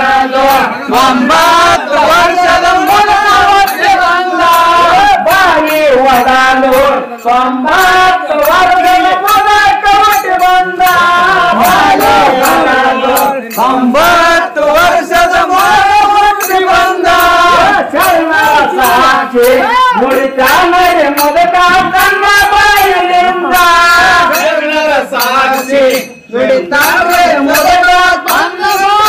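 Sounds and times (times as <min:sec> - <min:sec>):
men singing chant-like folk song: 0:00.0 - 0:29.0
sharp percussion strokes: 0:00.0 - 0:29.0.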